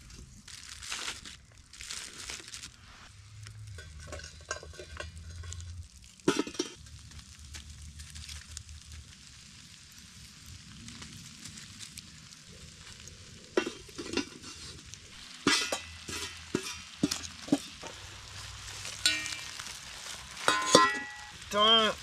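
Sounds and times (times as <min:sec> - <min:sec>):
cooking sizzling over campfire: 0:00.0 - 0:22.0.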